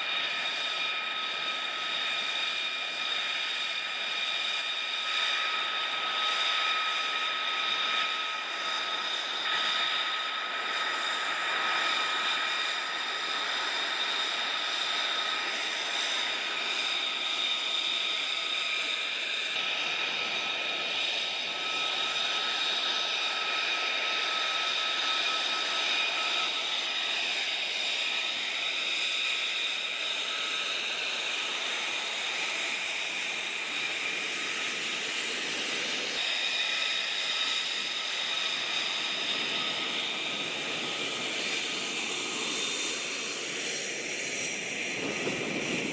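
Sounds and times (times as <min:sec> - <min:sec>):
jet engine running: 0:00.0 - 0:45.9.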